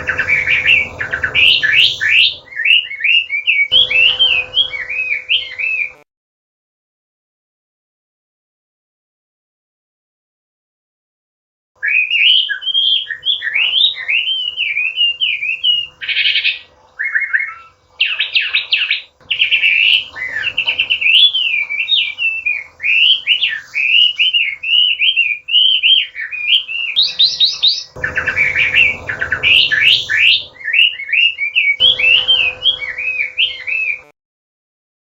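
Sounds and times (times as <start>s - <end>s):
bird singing whistled phrases: 0.0s - 6.0s, 11.8s - 34.1s.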